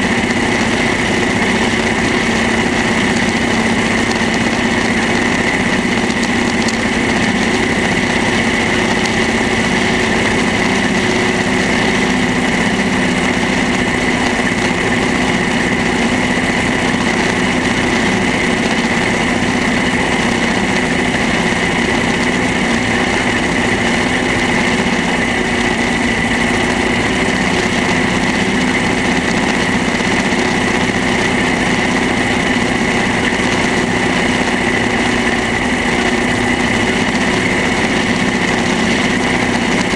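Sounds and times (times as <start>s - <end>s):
steady high whine: 0.0s - 39.9s
tractor engine running: 0.0s - 39.9s.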